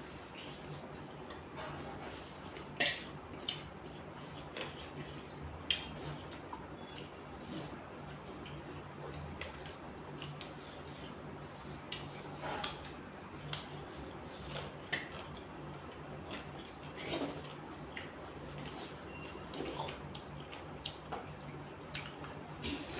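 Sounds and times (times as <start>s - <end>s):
steady low hum: 0.0s - 22.9s
wet chewing: 2.2s - 22.9s.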